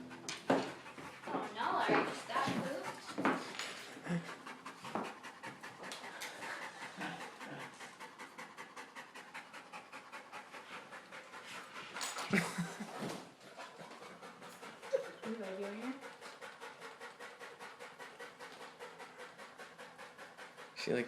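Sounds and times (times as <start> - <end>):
dog panting: 0.0 - 21.0.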